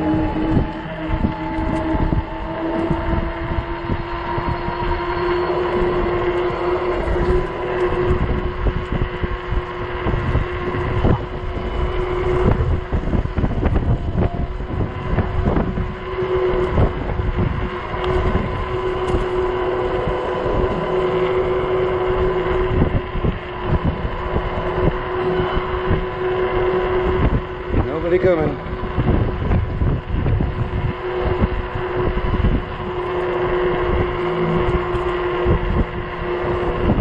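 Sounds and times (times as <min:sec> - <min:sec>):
steady motor whine: 0:00.0 - 0:37.0
wind buffeting microphone: 0:00.0 - 0:37.0.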